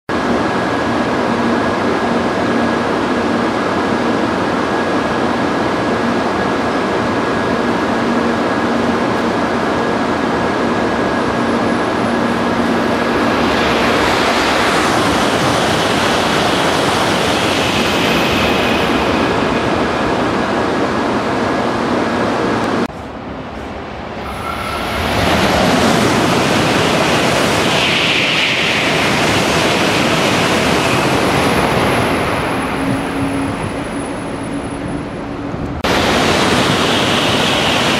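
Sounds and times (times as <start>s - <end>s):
high-speed train rushing past: 0.1s - 37.9s.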